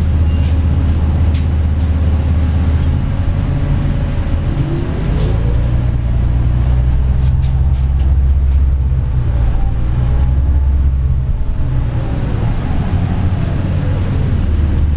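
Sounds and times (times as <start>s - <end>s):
bus drivetrain rumbling: 0.0s - 14.9s.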